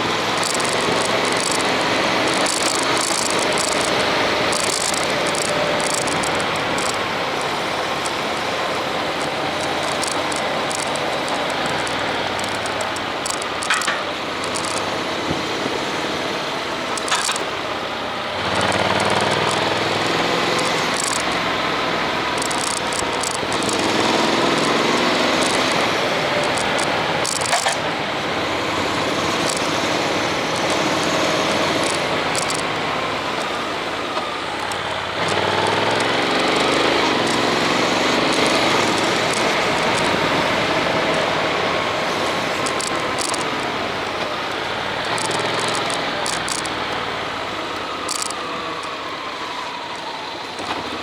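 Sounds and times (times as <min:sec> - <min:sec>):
motorbike engine running: 0:00.0 - 0:48.4
wind and road noise: 0:00.0 - 0:51.0.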